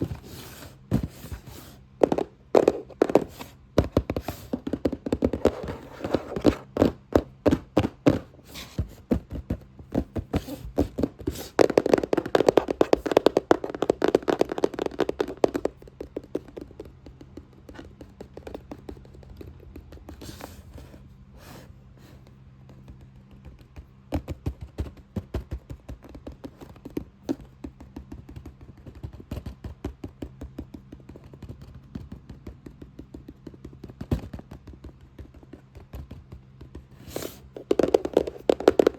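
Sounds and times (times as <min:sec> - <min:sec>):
fast tapping on a box: 0:00.0 - 0:21.0, 0:22.2 - 0:38.9.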